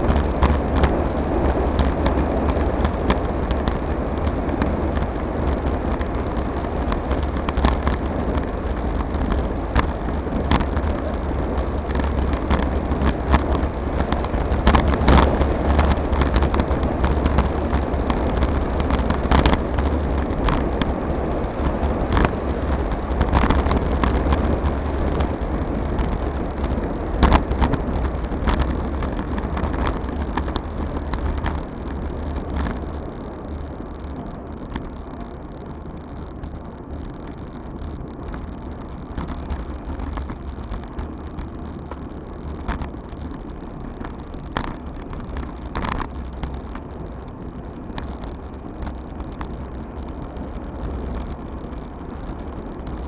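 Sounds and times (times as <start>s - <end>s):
bicycle knocks and rattles: 0.0s - 53.0s
tyre and road rumble: 0.0s - 53.0s
wind buffeting microphone: 0.0s - 53.0s.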